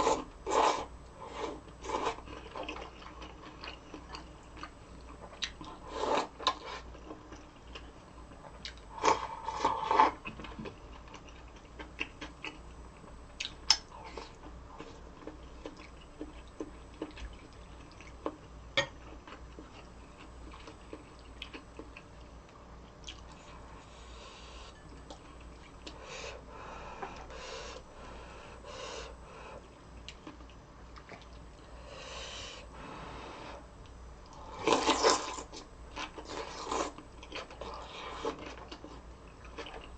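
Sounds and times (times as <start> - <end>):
soft chewing: 0.0 - 31.9, 33.6 - 39.9.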